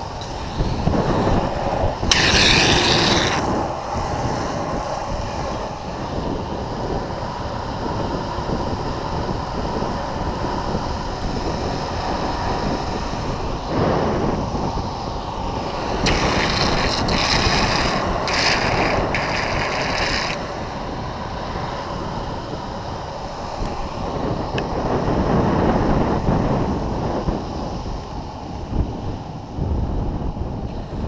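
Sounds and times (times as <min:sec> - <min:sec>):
skateboard wheels rolling on asphalt: 0:00.0 - 0:31.0
wind on microphone: 0:00.0 - 0:31.0.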